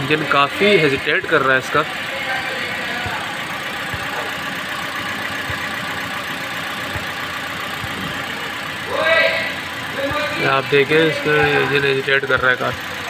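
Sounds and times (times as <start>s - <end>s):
car engine idling roughly: 0.0s - 13.0s.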